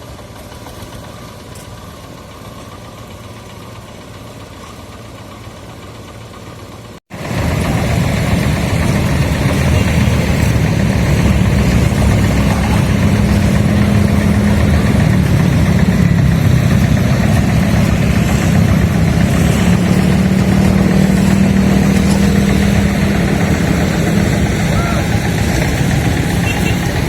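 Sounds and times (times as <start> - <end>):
small engine humming: 0.0 - 27.0.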